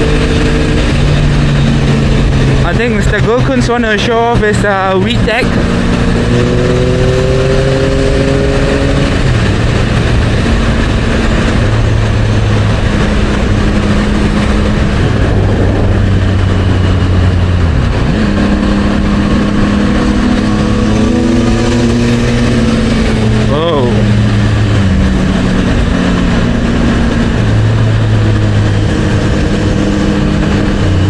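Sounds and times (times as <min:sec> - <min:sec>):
motorcycle engine at speed: 0:00.0 - 0:31.0
wind rush: 0:00.0 - 0:31.0.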